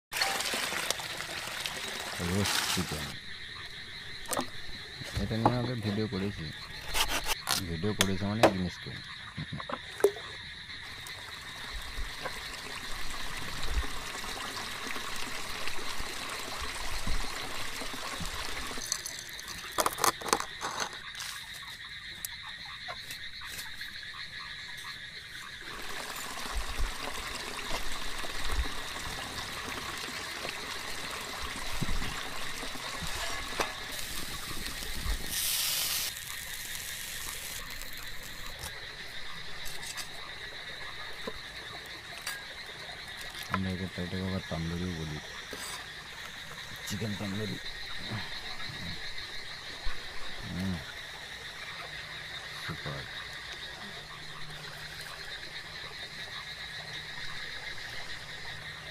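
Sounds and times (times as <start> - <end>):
frogs calling: 0.2 - 58.9.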